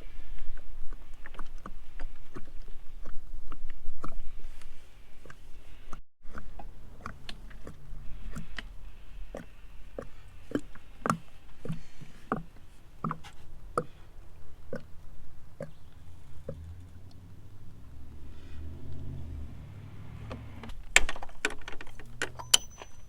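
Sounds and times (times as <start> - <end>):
oil glugging from a jug: 0.1 - 22.4.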